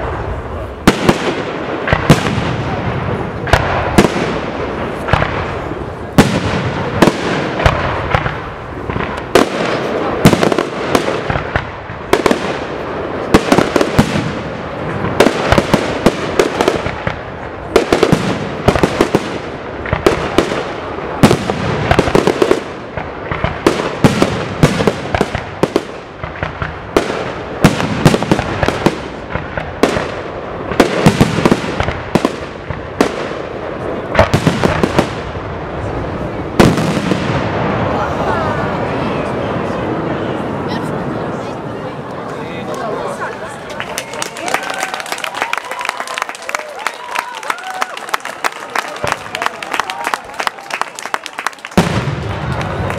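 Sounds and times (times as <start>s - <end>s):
firework crackling: 0.0s - 41.4s, 43.6s - 52.9s.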